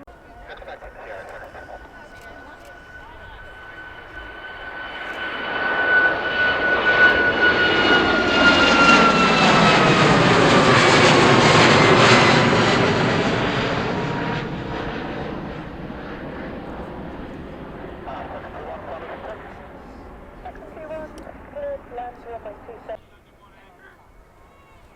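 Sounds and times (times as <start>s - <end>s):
high jet engine whine: 0.0s - 24.9s
jet aircraft passing: 0.0s - 24.9s.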